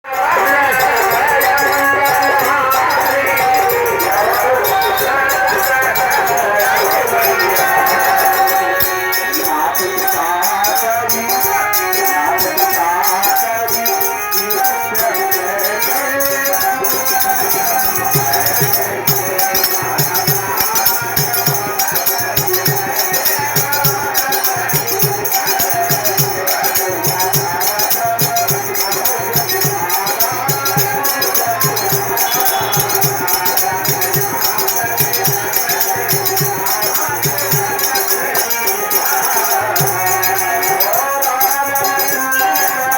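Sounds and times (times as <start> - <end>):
instrumental music: 0.0 - 42.9.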